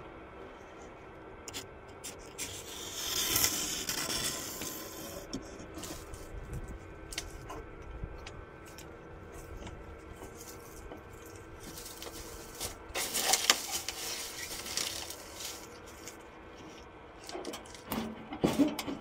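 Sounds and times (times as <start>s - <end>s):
bee cluster humming: 0.0s - 17.3s
rustling and scraping: 1.5s - 19.0s.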